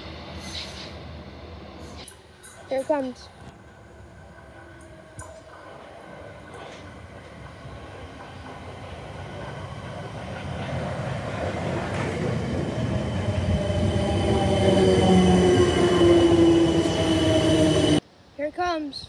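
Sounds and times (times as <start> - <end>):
electric train passing: 0.0 - 18.0
train whine: 0.0 - 18.0.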